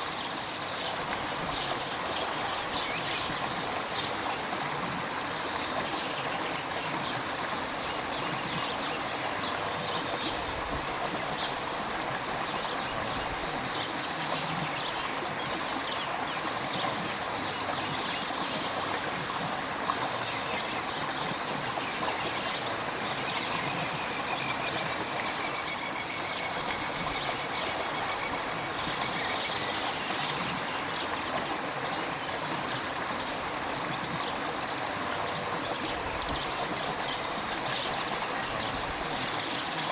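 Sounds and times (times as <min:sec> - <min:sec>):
river water running: 0:00.0 - 0:39.9
water splashing and trickling: 0:00.0 - 0:39.9.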